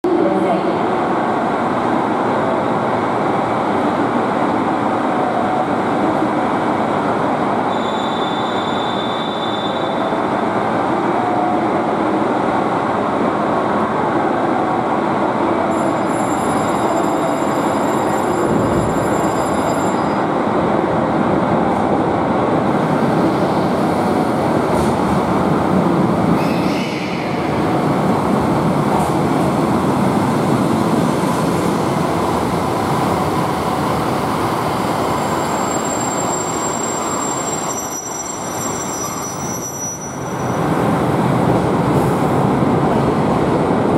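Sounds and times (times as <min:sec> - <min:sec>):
train wheels rumbling on rail: 0:00.1 - 0:43.9.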